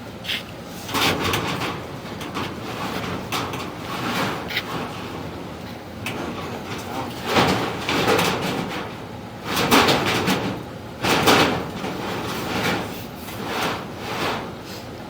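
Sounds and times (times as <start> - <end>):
cable scraping in metal duct: 0.3 - 15.0.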